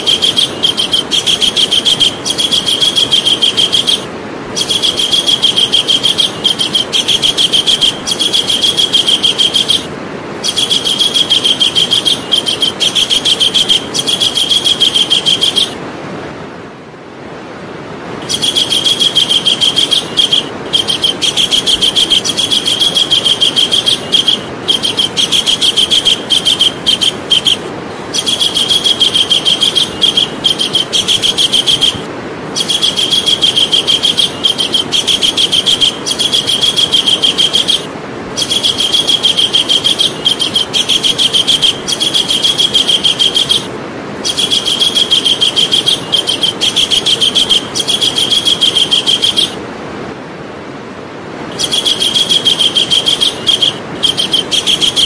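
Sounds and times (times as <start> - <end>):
kingfisher calling: 0.0 - 15.8, 18.2 - 49.6, 51.5 - 55.0
steady hiss: 0.0 - 16.6, 17.2 - 55.0.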